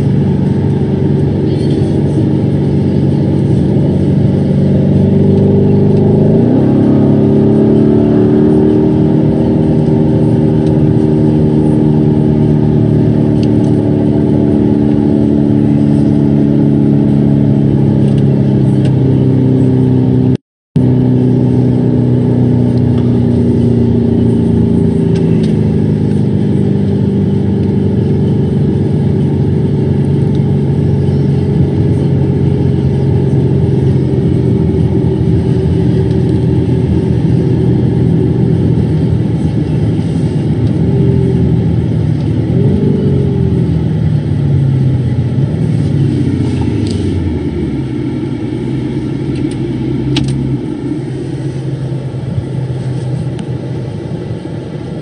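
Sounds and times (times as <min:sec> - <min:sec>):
car engine from inside cabin: 0:00.0 - 0:55.0
road and tyre noise: 0:00.0 - 0:55.0.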